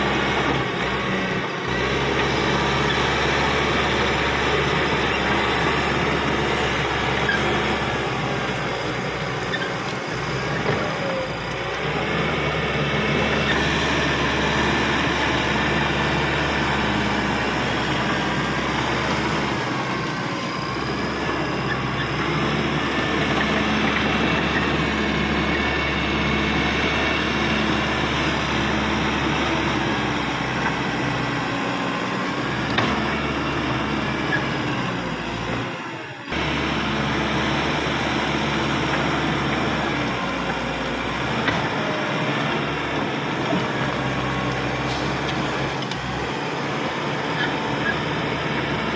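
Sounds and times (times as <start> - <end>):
bulldozer diesel drone: 0.0 - 48.9.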